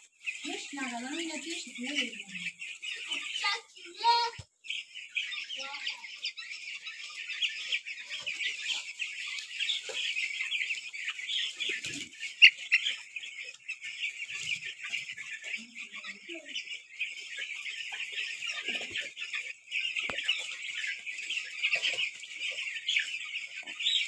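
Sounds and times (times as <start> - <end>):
chicks peeping: 0.0 - 24.0.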